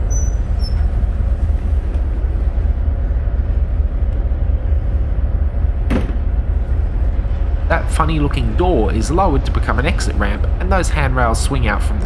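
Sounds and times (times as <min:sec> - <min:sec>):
ferry engine low rumble: 0:00.0 - 0:12.0.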